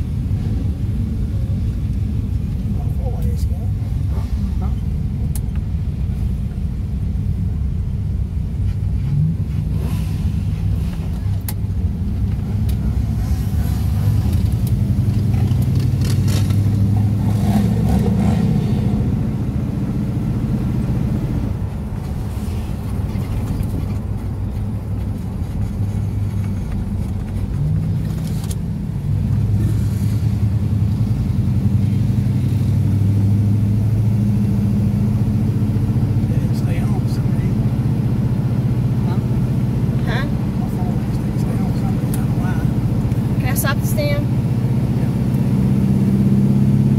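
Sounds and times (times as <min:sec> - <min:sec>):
car engine accelerating: 0:00.0 - 0:46.9
road and wind noise: 0:00.0 - 0:46.9.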